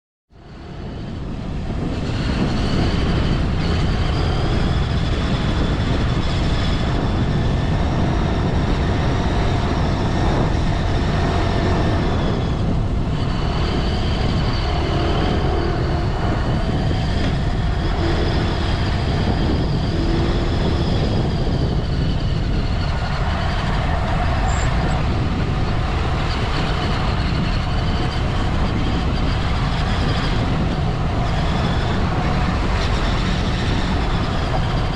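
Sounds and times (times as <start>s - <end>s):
wind: 0.3s - 34.9s
dirt bike engines: 0.4s - 34.9s.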